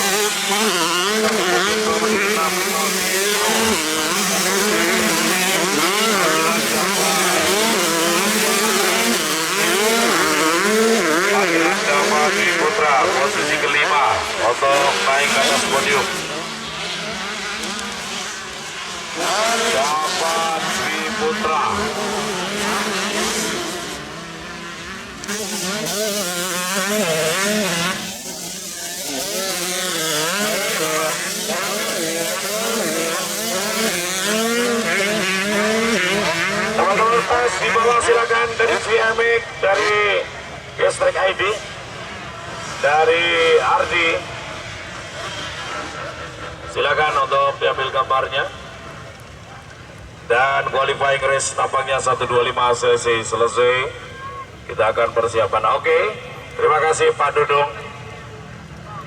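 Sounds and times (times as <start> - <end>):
motocross bikes revving: 0.0 - 59.0.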